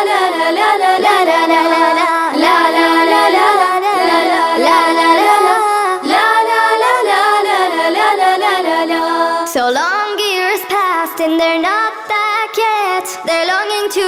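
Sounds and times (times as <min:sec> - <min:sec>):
child singing la la la: 0:00.0 - 0:14.0.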